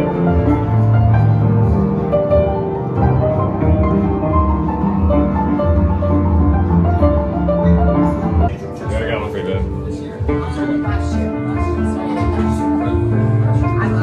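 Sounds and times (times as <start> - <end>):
upright piano playing: 0.0 - 14.0.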